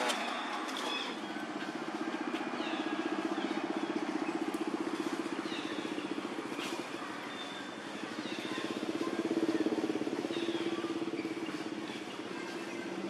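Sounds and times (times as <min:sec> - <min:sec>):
engine running with fast pulse: 0:00.0 - 0:13.0.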